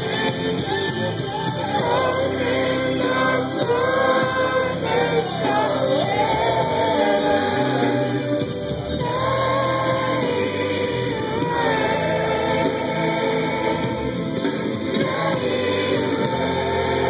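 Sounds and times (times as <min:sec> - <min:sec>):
person singing gospel: 0:00.0 - 0:17.0.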